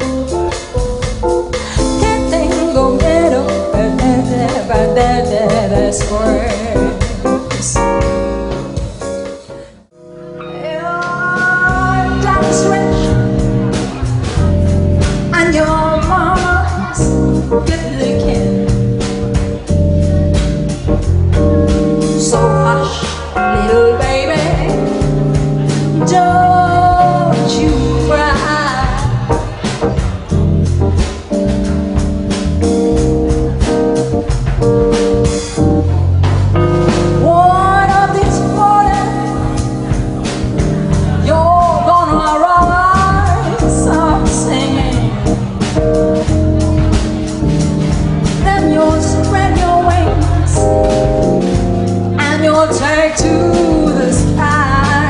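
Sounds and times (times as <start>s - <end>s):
woman singing jazz: 0.0s - 8.8s, 10.5s - 34.3s, 36.6s - 55.0s
upright double bass: 0.0s - 9.7s, 10.3s - 55.0s
drum kit: 0.0s - 55.0s
electric keyboard: 0.0s - 55.0s.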